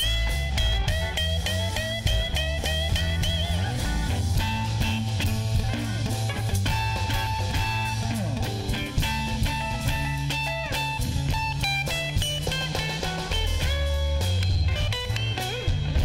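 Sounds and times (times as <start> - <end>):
electric guitar bending notes: 0.0 - 16.0
rock band playing: 0.0 - 16.0.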